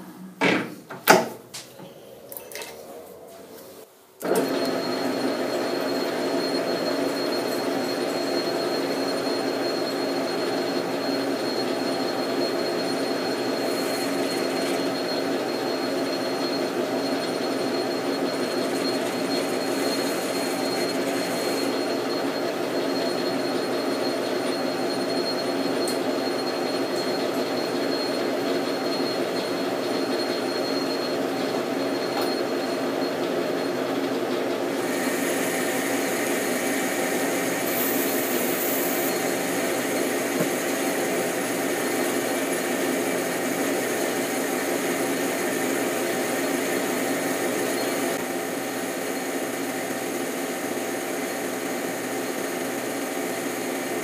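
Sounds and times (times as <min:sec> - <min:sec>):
thin high whine: 0:01.7 - 0:33.1, 0:34.8 - 0:53.3
lathe humming: 0:02.1 - 0:33.6, 0:34.6 - 0:54.0.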